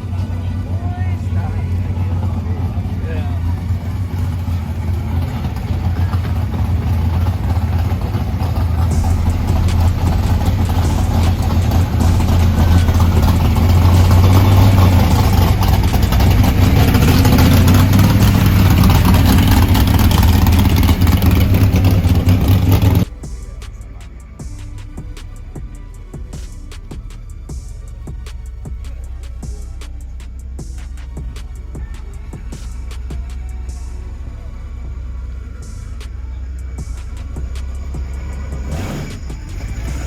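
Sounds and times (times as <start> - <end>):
car engine rumbling: 0.0 - 40.0.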